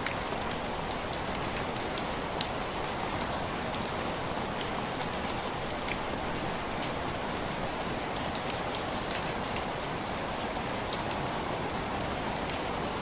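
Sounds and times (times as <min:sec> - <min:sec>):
rain on window glass: 0:00.0 - 0:13.0.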